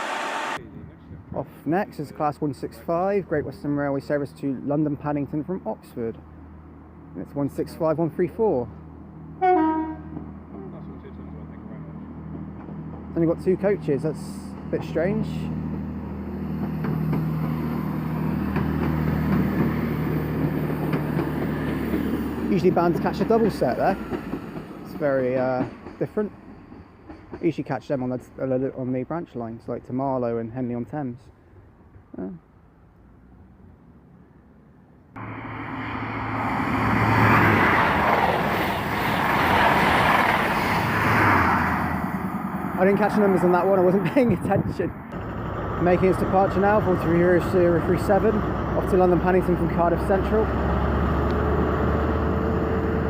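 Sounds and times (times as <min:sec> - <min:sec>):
train diesel engine drone: 0:00.0 - 0:30.2, 0:31.5 - 0:44.3, 0:44.9 - 0:53.0.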